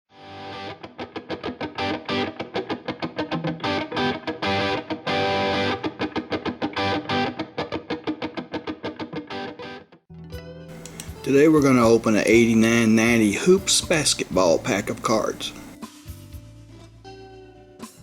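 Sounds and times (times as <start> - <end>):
distorted electric guitar music: 0.2 - 9.8, 10.7 - 15.8.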